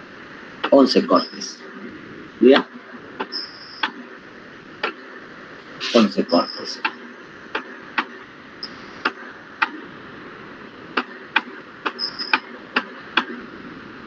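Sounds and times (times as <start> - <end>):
microphone hiss: 0.0 - 14.0.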